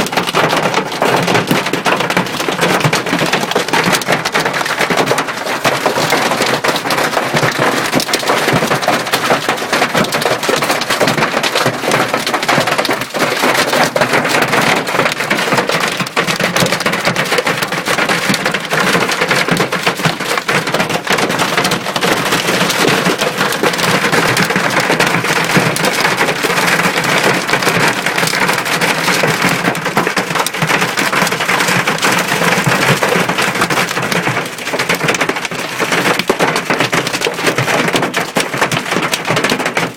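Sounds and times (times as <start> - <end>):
hailstones pelting a car: 0.0 - 39.9.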